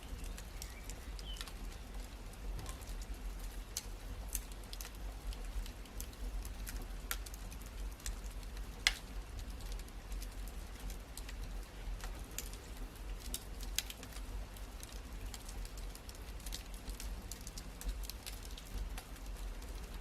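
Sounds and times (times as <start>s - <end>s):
low steady rumble: 0.0s - 20.0s
wood fire crackling and popping: 0.0s - 20.0s.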